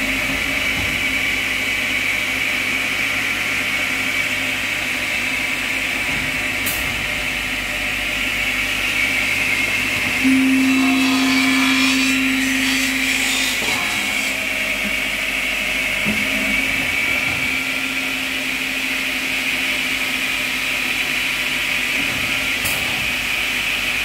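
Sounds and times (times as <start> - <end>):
machine motor hum with whine: 0.0 - 24.0.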